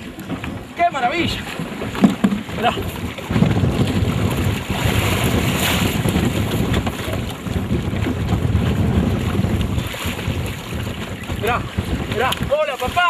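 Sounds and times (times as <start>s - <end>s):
water splashing: 0.0s - 13.0s
wind buffeting microphone: 0.0s - 13.0s.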